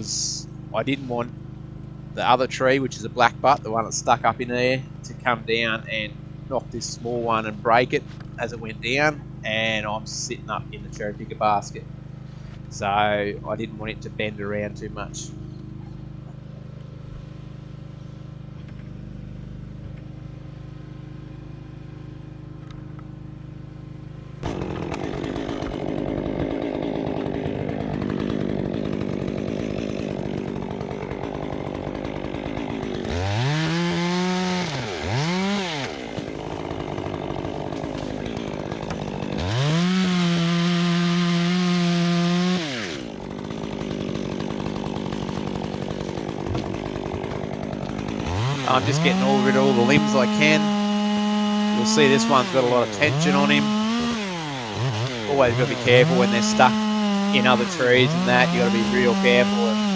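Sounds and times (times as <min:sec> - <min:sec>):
chainsaw running and revving: 0:00.0 - 0:59.9.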